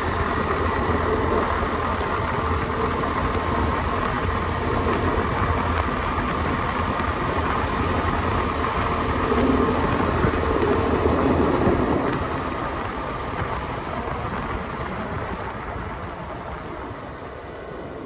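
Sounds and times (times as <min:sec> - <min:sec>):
motor scooter engine: 0:00.0 - 0:17.9
road and wind noise: 0:00.0 - 0:18.0.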